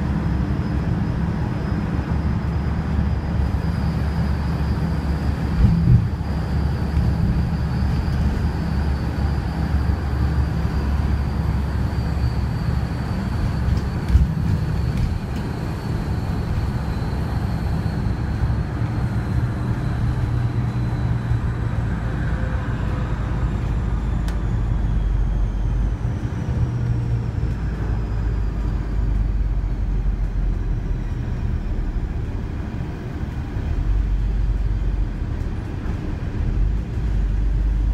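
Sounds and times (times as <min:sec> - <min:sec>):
bus engine drone: 0:00.0 - 0:37.9
road noise: 0:00.0 - 0:37.9.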